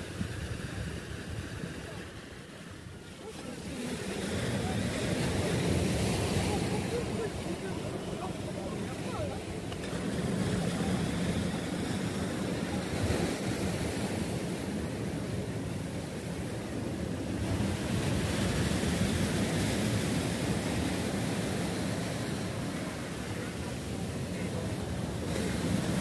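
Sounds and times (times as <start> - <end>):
sea waves breaking on a beach: 0.0 - 26.0.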